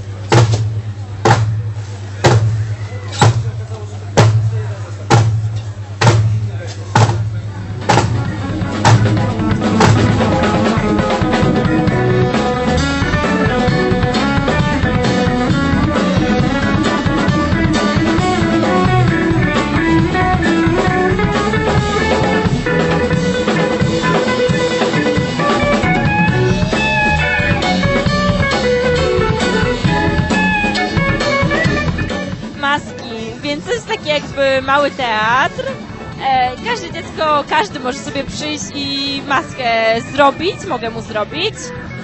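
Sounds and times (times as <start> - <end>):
drum kit beat: 0.0 - 42.0
guitar: 6.6 - 42.0.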